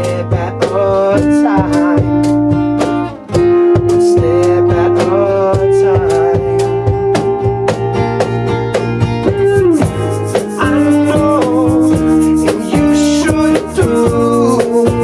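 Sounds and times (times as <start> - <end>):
electric bass: 0.0 - 15.0
electric guitar: 0.0 - 15.0
percussive hits: 0.5 - 15.0.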